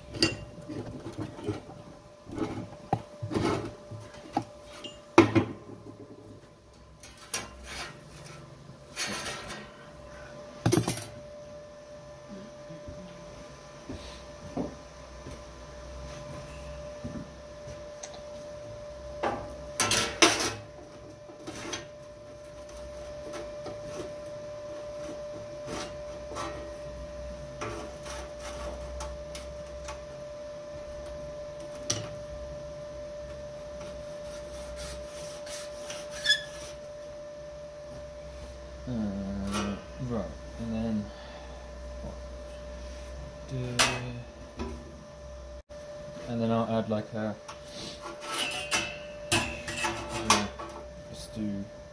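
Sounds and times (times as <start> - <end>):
faint hum: 0.0 - 51.9.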